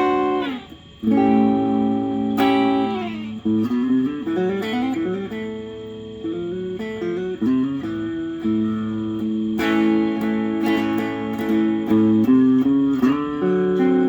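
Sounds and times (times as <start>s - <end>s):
electric guitar playing: 0.0s - 14.0s.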